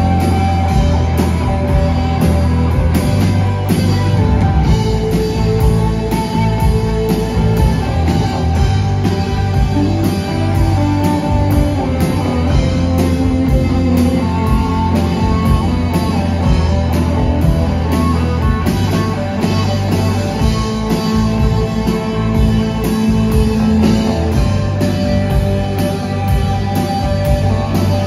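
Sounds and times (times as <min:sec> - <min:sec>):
bass guitar: 0:00.0 - 0:28.0
drum kit steady beat: 0:00.0 - 0:28.0
electric guitars: 0:00.0 - 0:28.0.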